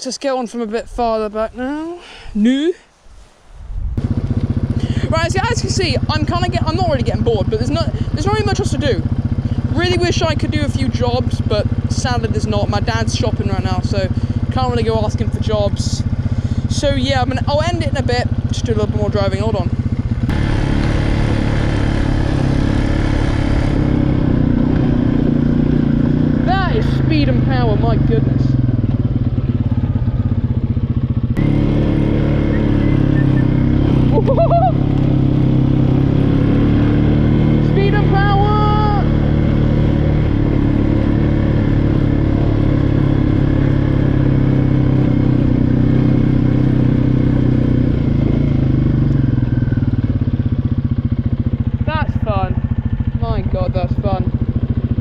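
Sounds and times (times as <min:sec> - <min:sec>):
quad bike engine running hard: 0:04.0 - 0:55.0.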